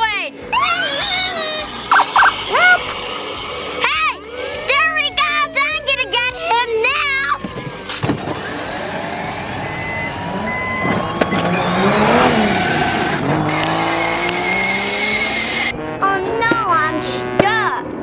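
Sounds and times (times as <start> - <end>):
car engines passing fast: 0.4 - 16.2.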